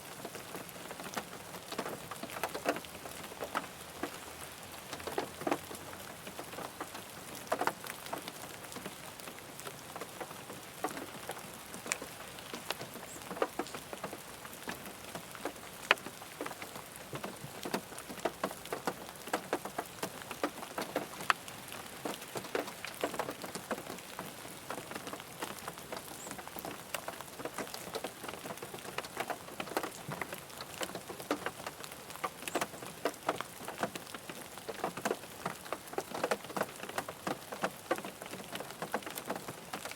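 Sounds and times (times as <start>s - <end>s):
raindrops pattering on car roof: 0.0s - 39.9s
steady rain hiss: 0.0s - 39.9s.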